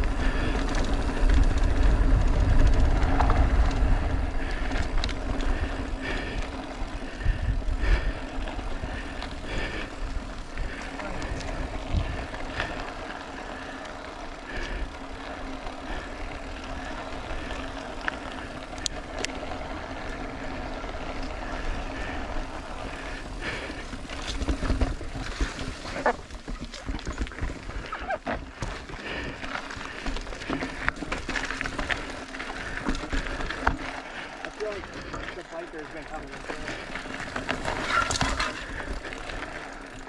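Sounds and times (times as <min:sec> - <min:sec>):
mountain bike rolling on trail: 0:00.0 - 0:40.0.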